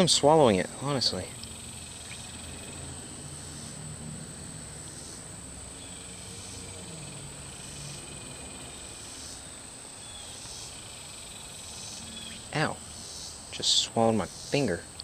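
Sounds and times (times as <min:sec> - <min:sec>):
insects droning: 0:00.0 - 0:15.0
rasping insect calls: 0:00.0 - 0:15.0.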